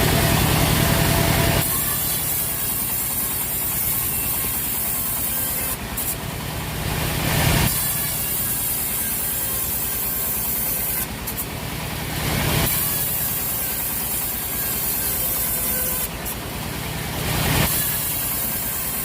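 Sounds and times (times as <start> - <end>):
sawmill machinery drone: 0.0 - 19.0.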